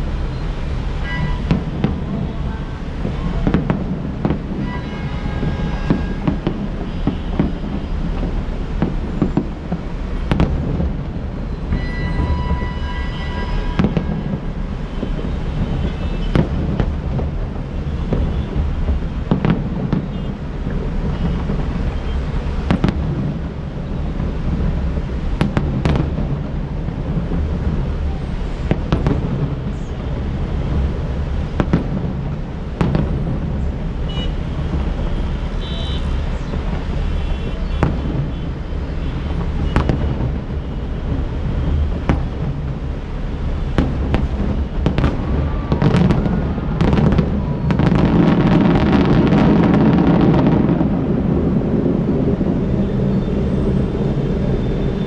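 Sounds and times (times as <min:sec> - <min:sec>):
fireworks whistles: 0:00.0 - 0:30.2, 0:31.2 - 0:42.7, 0:43.4 - 0:55.0
city traffic rumble: 0:00.0 - 0:55.0
fireworks bangs: 0:00.0 - 0:55.0.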